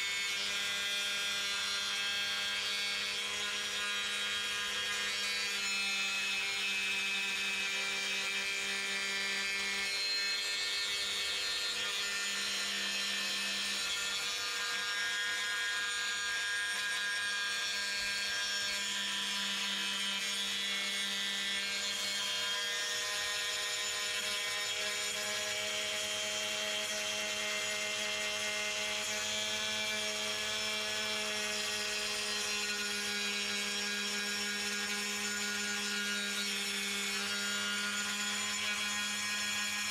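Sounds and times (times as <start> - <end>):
electric tile saw cutting: 0.0 - 39.9.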